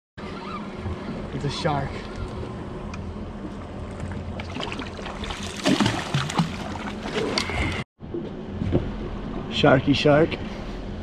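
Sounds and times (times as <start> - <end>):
water noise: 0.2 - 9.6
outboard motors humming: 0.2 - 11.0
wind: 0.2 - 11.0.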